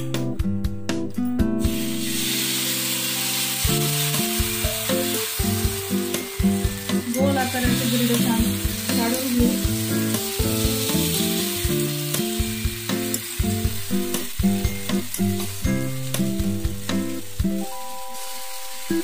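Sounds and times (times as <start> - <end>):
background music with held notes: 0.0 - 19.0
pancake sizzling in oil: 1.6 - 19.0.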